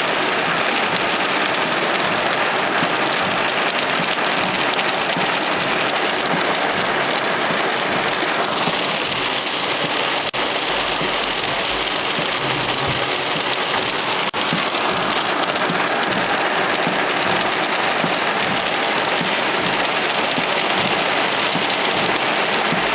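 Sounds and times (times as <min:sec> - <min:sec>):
heavy rain on grass: 0:00.0 - 0:22.9.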